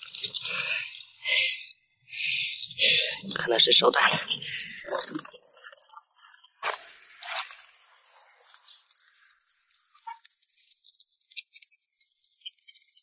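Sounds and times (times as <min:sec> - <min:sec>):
faint scraping and scratching: 0:00.0 - 0:13.0.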